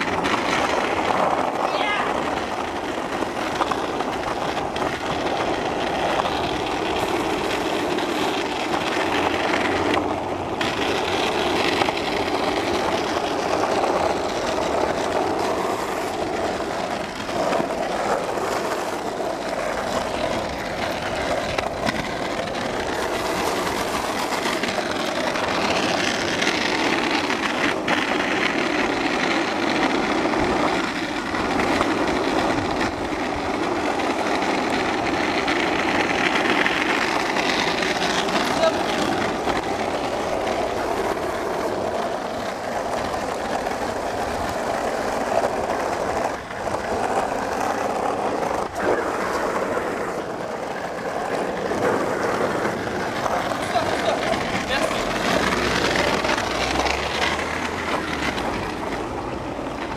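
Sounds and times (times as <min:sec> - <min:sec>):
skateboard wheels rolling on asphalt: 0:00.0 - 0:59.9.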